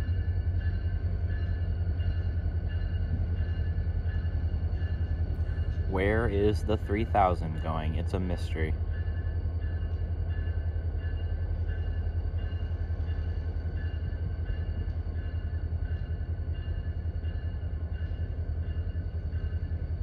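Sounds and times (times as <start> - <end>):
diesel locomotive engines rumbling: 0.0 - 20.0.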